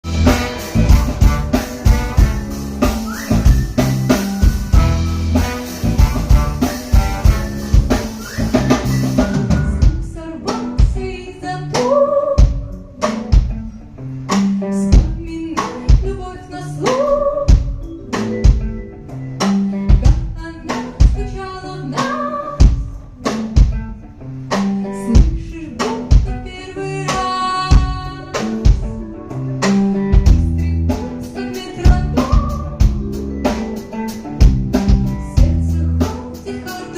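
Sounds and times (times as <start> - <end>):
drum kit beat: 0.0 - 36.9
sung melody: 0.0 - 36.9.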